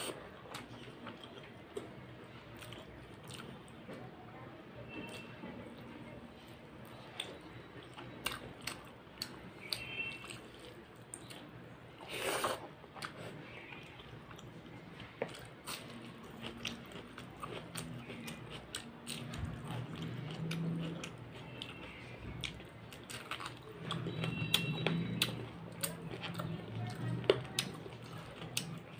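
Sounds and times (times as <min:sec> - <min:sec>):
food crunching: 0:00.0 - 0:03.8, 0:06.8 - 0:28.9
person chewing food: 0:00.0 - 0:03.8, 0:06.8 - 0:28.9.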